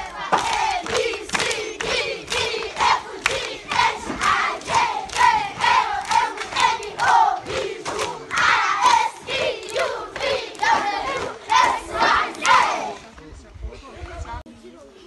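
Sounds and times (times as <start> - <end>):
children chanting loudly: 0.0 - 13.0.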